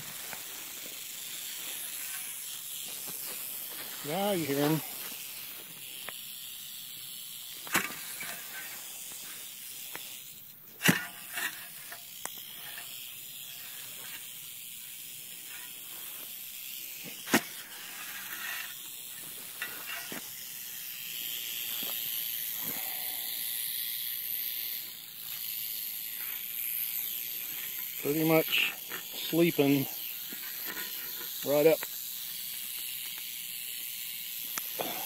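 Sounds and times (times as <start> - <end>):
rattlesnake rattling: 0.0 - 35.0.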